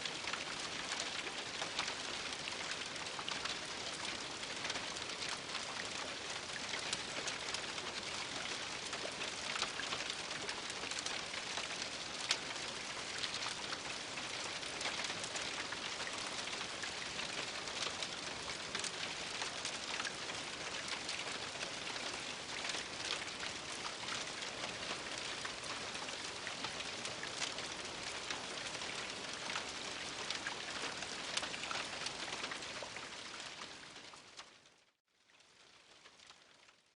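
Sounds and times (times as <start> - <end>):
rain on a roof: 0.0 - 36.9.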